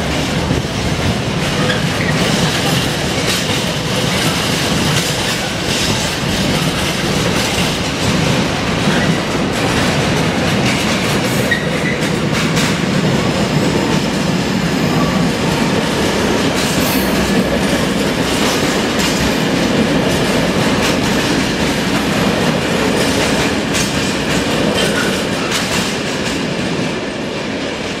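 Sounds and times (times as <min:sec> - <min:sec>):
wheels clacking over rail joints: 0:00.0 - 0:27.1
freight train rumbling past: 0:00.0 - 0:28.0.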